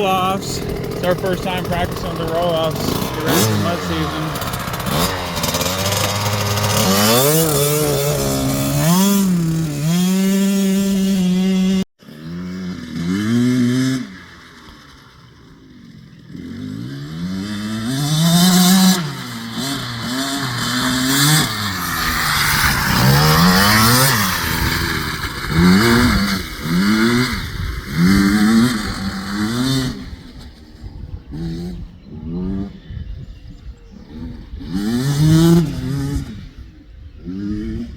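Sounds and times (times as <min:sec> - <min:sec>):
dirt bike engine revving: 0:00.0 - 0:32.9, 0:34.1 - 0:37.9.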